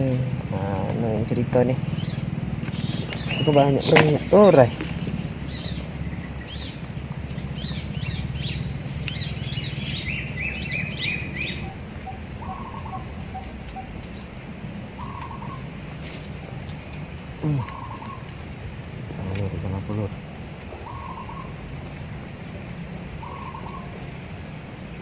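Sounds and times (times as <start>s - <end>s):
steady low hum: 0.0s - 25.0s
wild birds chirping and trilling: 0.0s - 25.0s.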